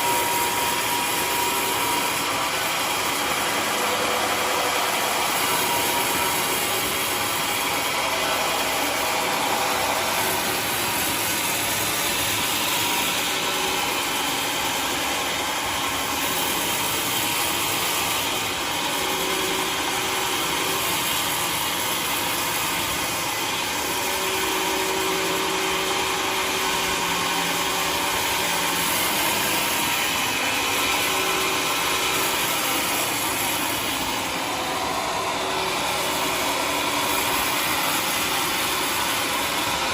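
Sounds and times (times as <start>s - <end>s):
engine-driven saw cutting log: 0.0s - 39.9s.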